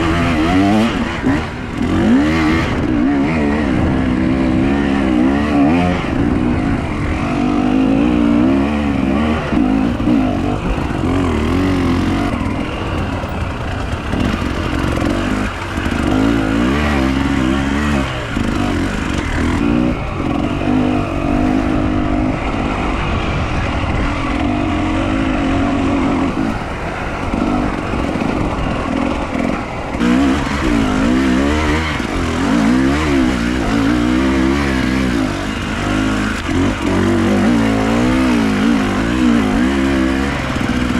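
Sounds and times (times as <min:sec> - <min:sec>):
vehicle engine revving: 0:00.0 - 0:40.9.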